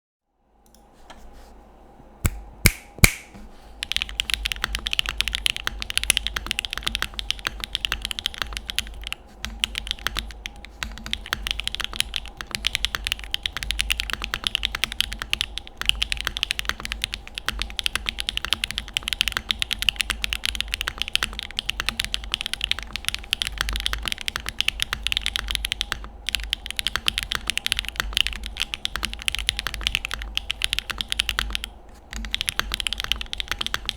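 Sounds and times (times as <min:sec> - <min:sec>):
mechanical keyboard typing: 0:03.8 - 0:33.9.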